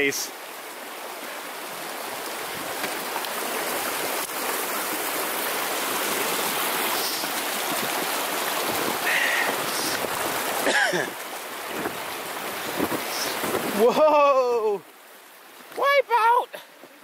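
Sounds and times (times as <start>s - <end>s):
brook running over rocks: 0.0s - 17.0s.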